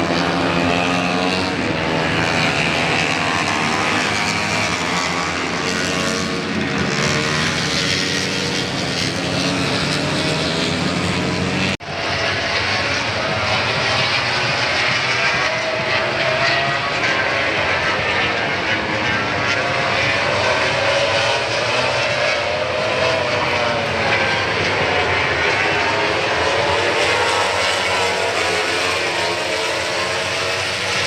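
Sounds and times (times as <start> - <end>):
racing motorcycles passing: 0.0 - 31.0.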